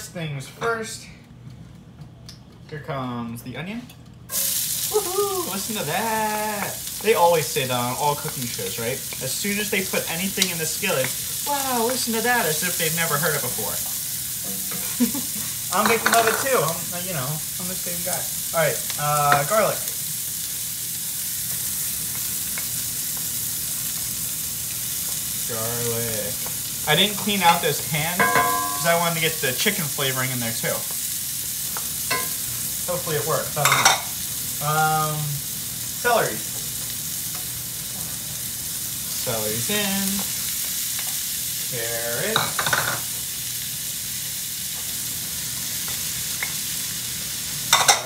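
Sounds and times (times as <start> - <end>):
onion sizzling in oil: 4.3 - 48.0.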